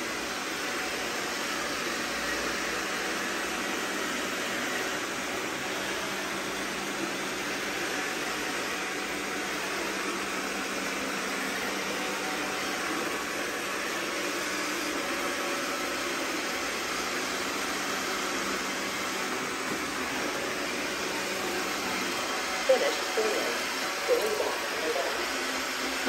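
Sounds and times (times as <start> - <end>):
robot vacuums whirring: 0.0 - 26.0.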